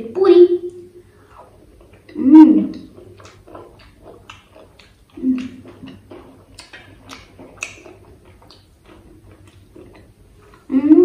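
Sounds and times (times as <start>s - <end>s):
chewing crunchy food: 0.7s - 10.7s.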